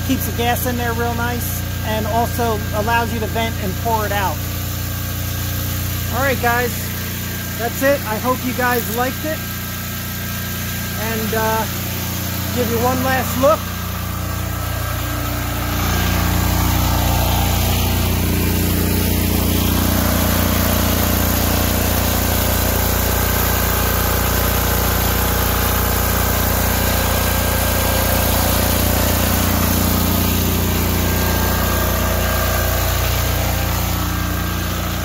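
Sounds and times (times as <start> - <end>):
diesel generator running: 0.0 - 35.0.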